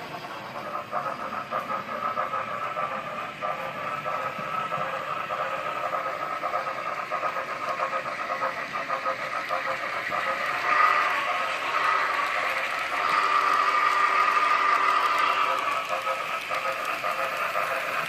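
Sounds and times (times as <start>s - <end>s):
model train motor whine: 0.0s - 18.0s
wheels rattling on rails: 0.0s - 18.0s.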